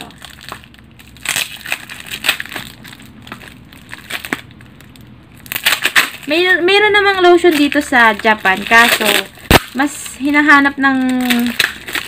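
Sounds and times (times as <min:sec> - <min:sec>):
paper and tape crinkling: 0:00.0 - 0:12.0.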